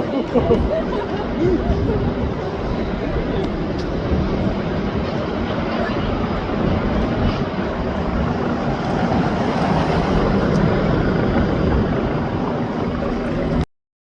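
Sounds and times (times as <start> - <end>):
helicopter hovering: 0.0 - 13.7.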